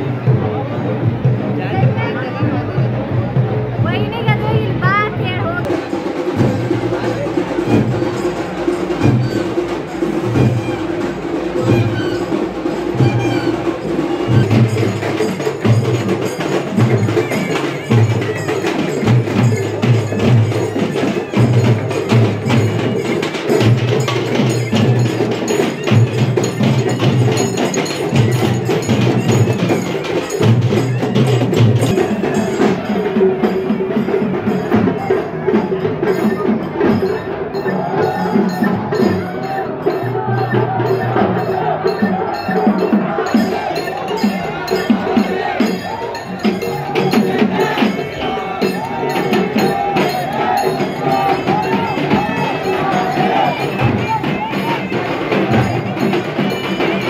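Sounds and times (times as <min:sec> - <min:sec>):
drums beating rhythm: 0:00.0 - 0:57.0
bells clanging rapidly: 0:01.8 - 0:57.0.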